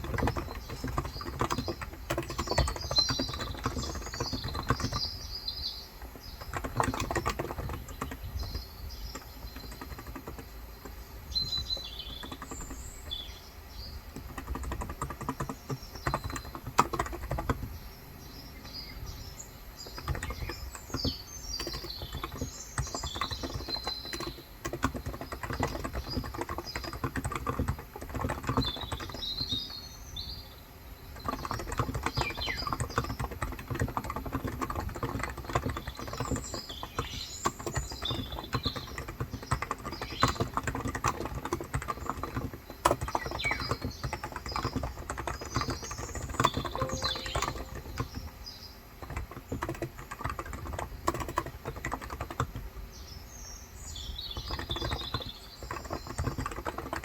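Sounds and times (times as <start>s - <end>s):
keyboard keys clacking: 0.0s - 5.3s, 6.0s - 29.8s, 30.6s - 53.0s, 54.2s - 57.0s
small birds chirping: 0.0s - 57.0s.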